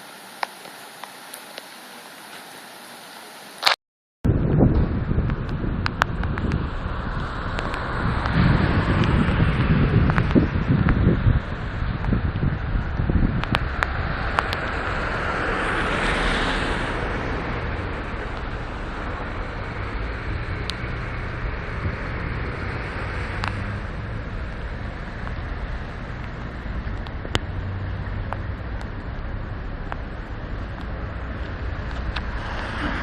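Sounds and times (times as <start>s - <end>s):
road traffic: 0.0s - 33.0s
wind rumbling on microphone: 4.2s - 33.0s
car passing: 4.9s - 33.0s.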